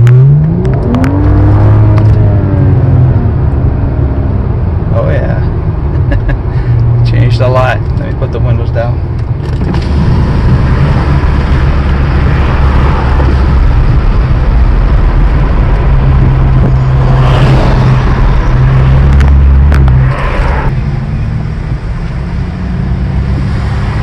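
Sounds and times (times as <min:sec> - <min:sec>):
car exhaust while driving: 0:00.0 - 0:24.0.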